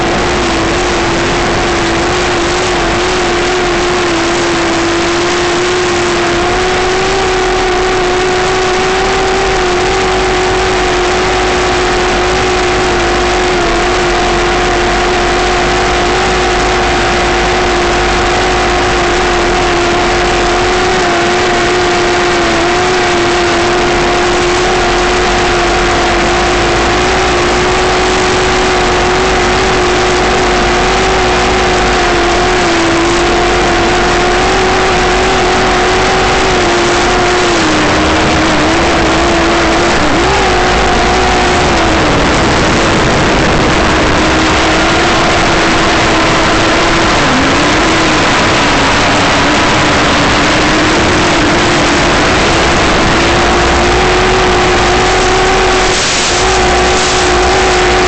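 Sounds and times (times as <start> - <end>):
electric motor and propeller: 0.0 - 58.0.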